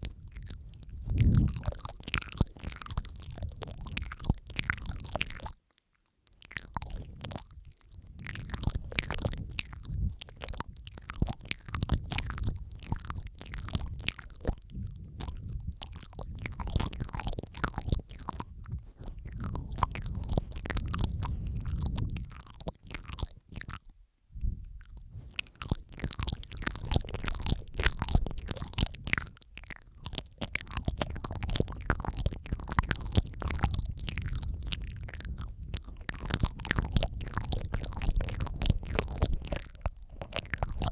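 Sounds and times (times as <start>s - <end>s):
wet mouth clicks and smacks: 0.0s - 40.9s.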